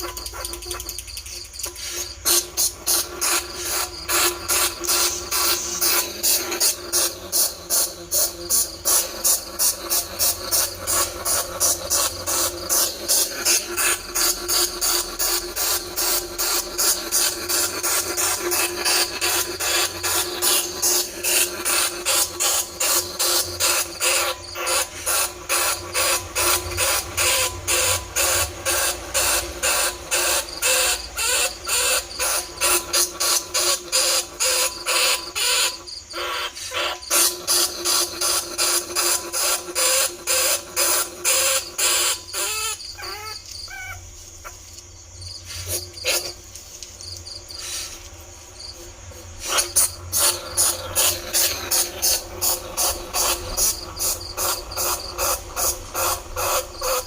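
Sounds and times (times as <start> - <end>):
rapid high squeaks: 0.0 - 44.6, 48.6 - 57.0.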